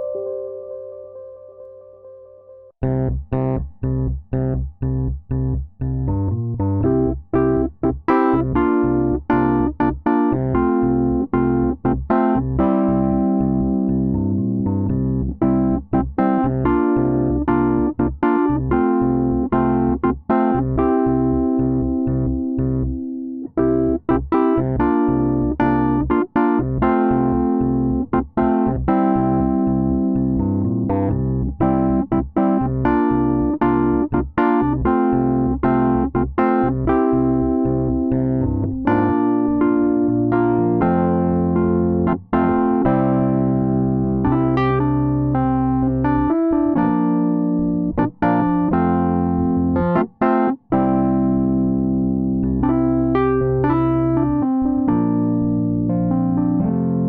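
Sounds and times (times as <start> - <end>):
electric piano chords: 0.0 - 3.6, 6.1 - 57.0
low bass notes: 2.8 - 57.0.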